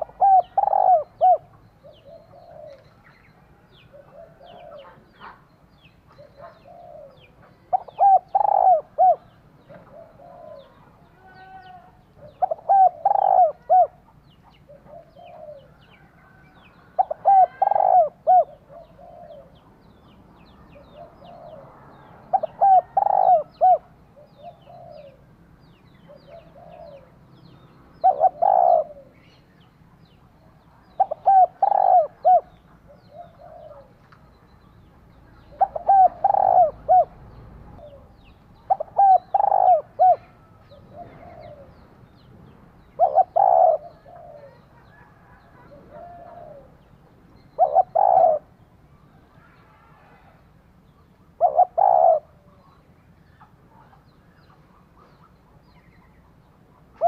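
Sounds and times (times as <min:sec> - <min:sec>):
dove cooing: 0:00.0 - 0:19.8, 0:20.7 - 0:29.4, 0:30.7 - 0:34.4, 0:35.4 - 0:42.2, 0:42.8 - 0:48.6, 0:51.3 - 0:54.1.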